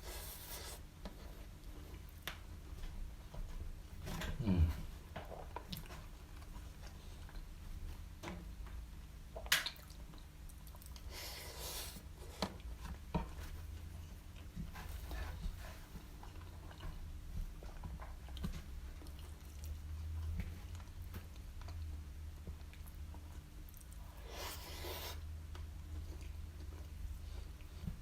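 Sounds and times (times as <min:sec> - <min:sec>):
close chewing of food: 0:00.0 - 0:08.2, 0:08.9 - 0:28.0.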